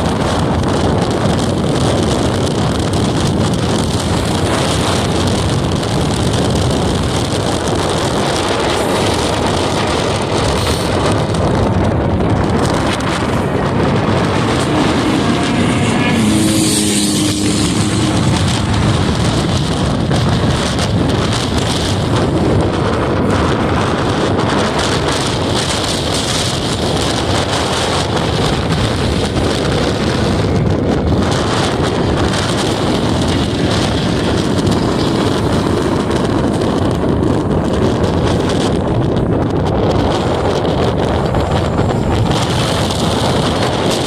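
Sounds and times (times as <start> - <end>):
race car engine: 0.0 - 44.0
wind noise on microphone: 0.0 - 44.0.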